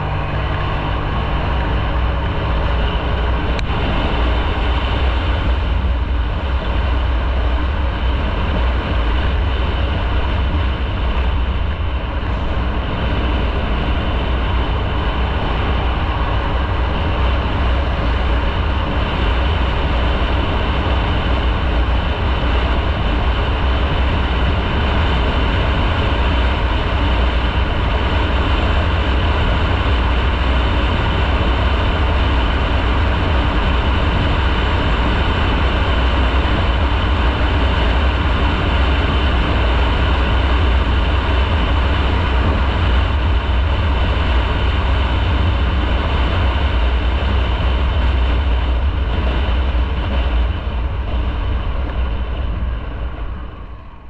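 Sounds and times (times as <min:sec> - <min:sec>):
motorcycle engine rumble: 0:00.0 - 0:54.0
rushing air: 0:00.0 - 0:54.0.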